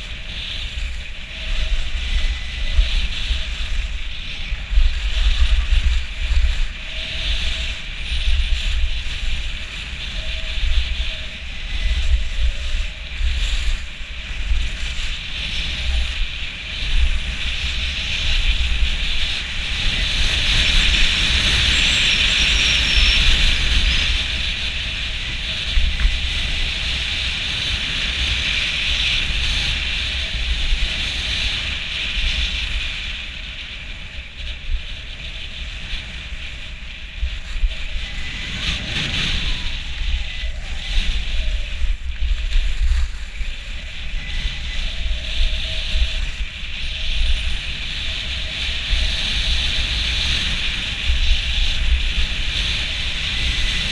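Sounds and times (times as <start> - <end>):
skis hissing on snow: 0.0 - 53.9
wind buffeting microphone: 0.0 - 53.9.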